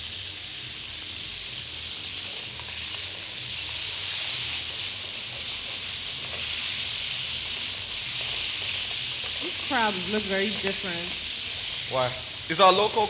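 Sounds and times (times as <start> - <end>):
crab claws sizzling in oil: 0.0 - 13.0.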